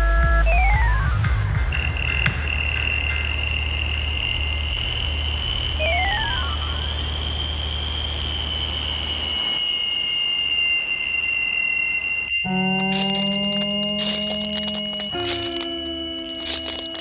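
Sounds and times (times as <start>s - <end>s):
steady high whine: 2.4s - 17.0s
electronic sweeps: 2.5s - 17.0s
low hum: 2.8s - 17.0s.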